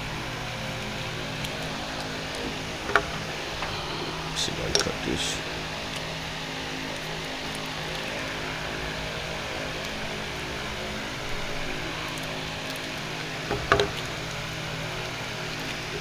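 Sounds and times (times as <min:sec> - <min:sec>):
background hiss and hum: 0:00.0 - 0:16.0.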